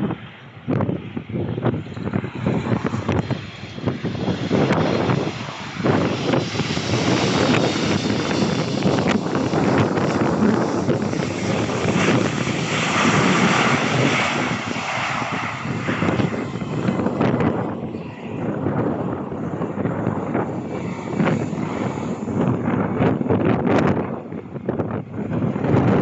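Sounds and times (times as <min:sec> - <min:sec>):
aircraft engine noise: 0:00.0 - 0:26.0
wind buffeting microphone: 0:00.0 - 0:26.0.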